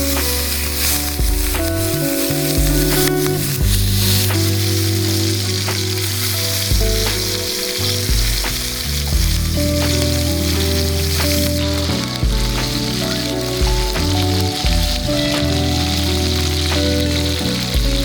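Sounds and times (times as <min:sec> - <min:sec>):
background music: 0:00.0 - 0:18.0
food sizzling in a pan: 0:00.0 - 0:18.0.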